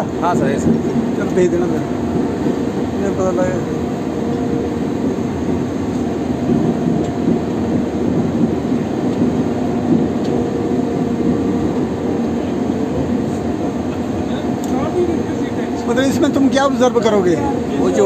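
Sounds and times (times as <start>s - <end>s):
locomotive wheels rumbling on track: 0.0s - 18.0s.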